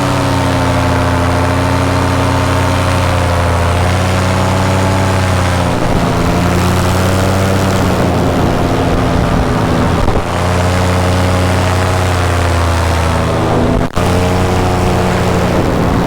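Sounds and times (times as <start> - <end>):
paramotor engine droning: 0.0 - 16.0.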